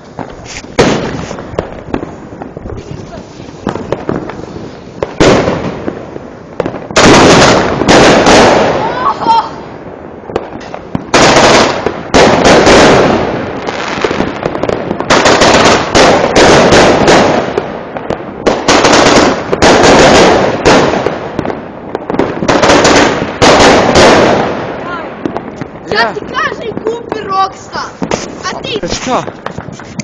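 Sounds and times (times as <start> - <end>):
fireworks and firecrackers banging: 0.0 - 30.0.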